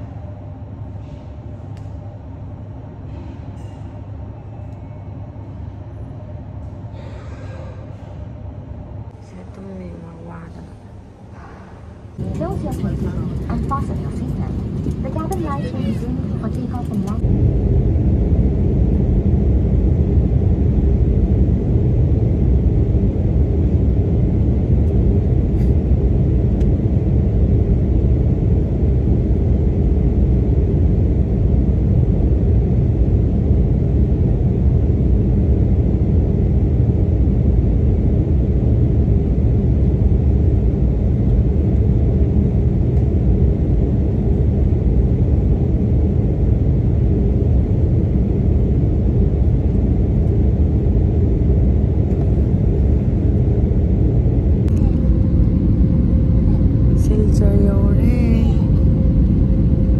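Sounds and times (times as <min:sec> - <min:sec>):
airliner engines rumbling: 0:00.0 - 0:59.9.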